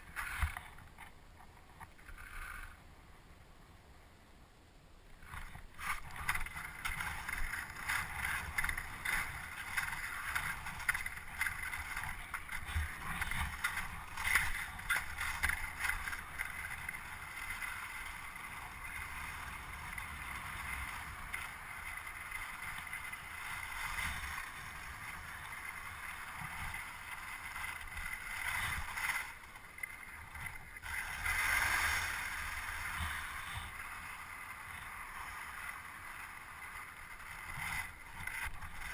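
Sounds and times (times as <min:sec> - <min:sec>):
kite board scraping across ice: 0:00.0 - 0:02.8, 0:05.2 - 0:38.9
wind rumble on microphone: 0:05.2 - 0:38.9.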